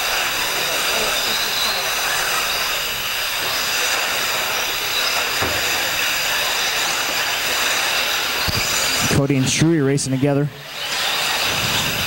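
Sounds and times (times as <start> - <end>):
high-pitched whining tones: 0.0 - 12.0
motor and drivetrain hiss: 0.0 - 12.0.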